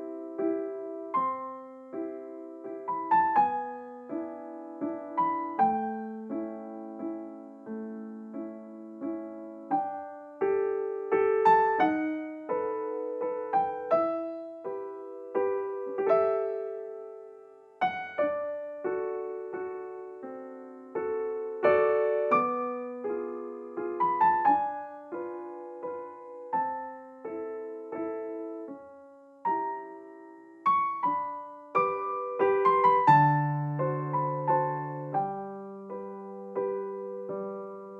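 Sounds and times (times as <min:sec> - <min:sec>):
gentle solo piano: 0:00.0 - 0:37.9.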